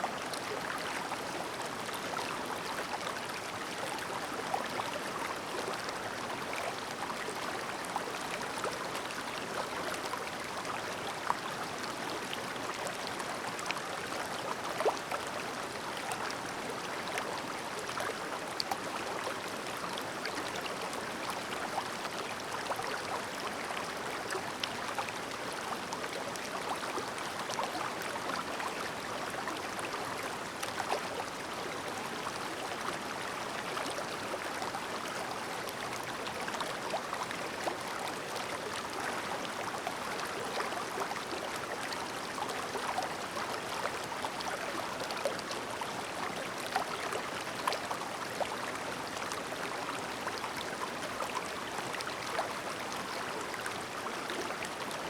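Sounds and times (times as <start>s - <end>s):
stream babbling: 0.1s - 55.0s.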